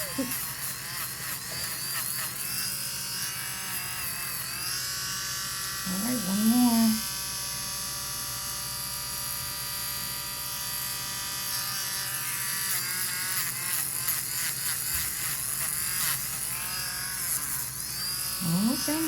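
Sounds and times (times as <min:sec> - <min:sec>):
electric nail grinder whining: 0:00.0 - 0:19.0.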